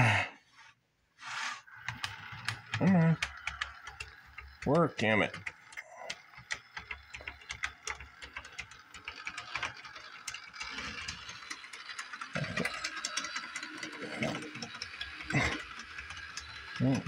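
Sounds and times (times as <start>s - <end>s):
model railcar motor running: 1.2s - 17.0s
rapid clicking: 1.6s - 17.0s.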